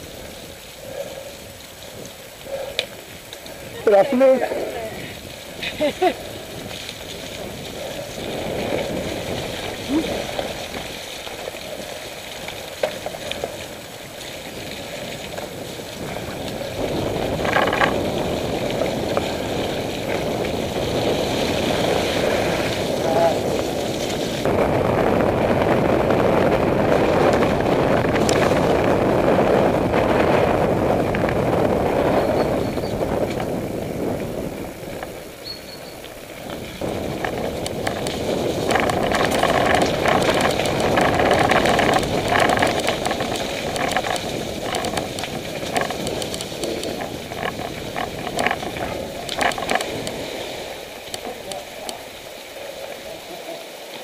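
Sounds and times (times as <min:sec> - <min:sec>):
bike rattles and clicks: 0:00.0 - 0:53.2
bike tyres rushing: 0:00.0 - 0:54.0.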